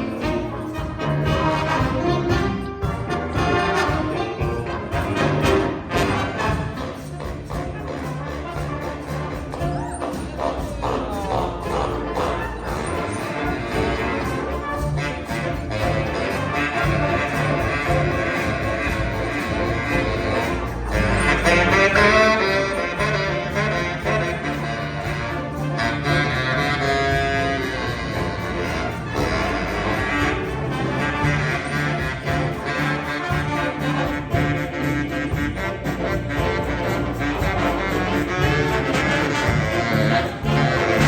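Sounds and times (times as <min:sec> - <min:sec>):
bass guitar: 0:00.0 - 0:41.0
piano: 0:00.0 - 0:41.0
saxophone quartet playing jazz: 0:00.0 - 0:41.0.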